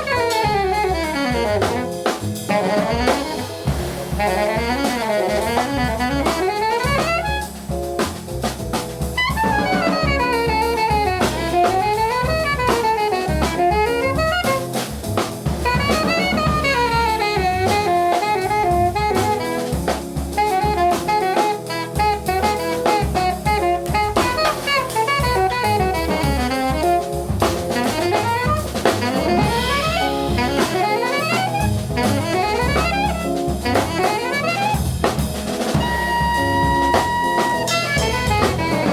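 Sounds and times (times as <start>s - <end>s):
alto saxophone solo: 0.0s - 38.9s
double bass: 0.0s - 38.9s
drum kit: 0.0s - 38.9s.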